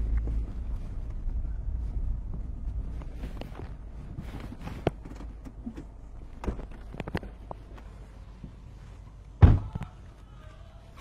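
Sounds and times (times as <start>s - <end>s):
car engine rumble: 0.0s - 10.2s.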